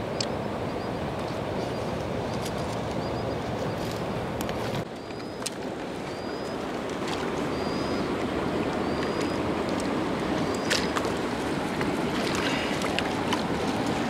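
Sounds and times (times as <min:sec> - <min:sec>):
water rushing at dam: 0:00.0 - 0:14.0.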